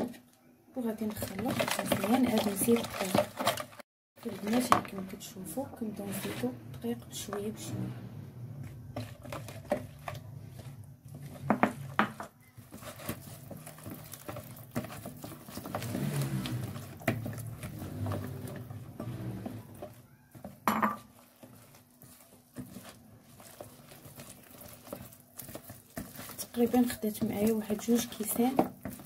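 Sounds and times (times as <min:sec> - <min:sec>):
whisk scraping plastic bowl: 0:01.0 - 0:05.1, 0:05.8 - 0:29.0.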